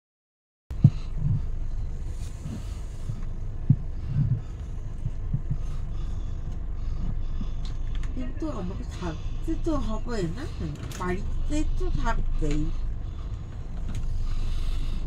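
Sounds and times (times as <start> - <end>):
low thumps of train: 0.7 - 15.0
train carriage rumbling: 0.7 - 15.0.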